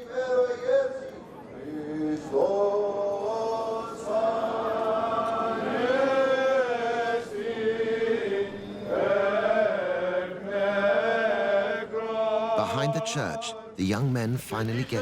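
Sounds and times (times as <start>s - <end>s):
chant with long sung notes: 0.0s - 15.0s.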